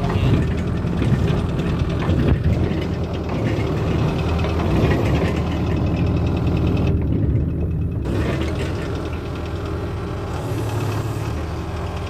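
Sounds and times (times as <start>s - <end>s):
excavator diesel engine idling: 0.0s - 12.0s.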